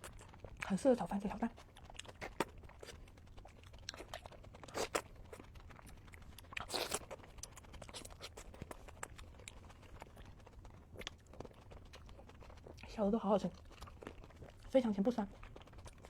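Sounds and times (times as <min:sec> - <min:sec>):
person chewing: 0:00.0 - 0:00.8, 0:01.5 - 0:14.7, 0:15.3 - 0:16.0.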